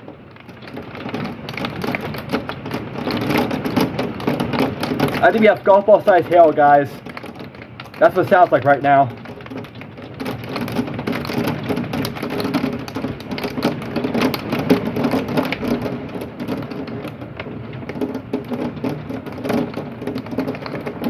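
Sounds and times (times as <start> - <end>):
hail clattering on window: 0.0 - 21.0
rain hissing: 0.0 - 21.0.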